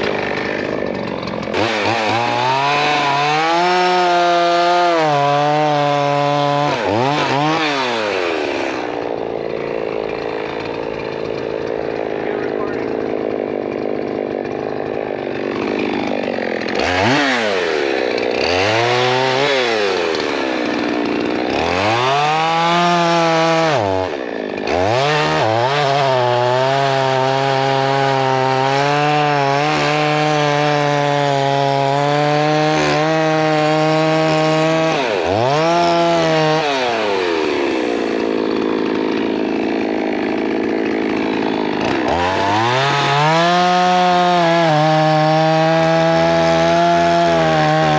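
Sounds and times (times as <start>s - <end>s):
chainsaw cutting wood: 0.0s - 47.9s
chainsaw idling and revving: 0.0s - 47.9s.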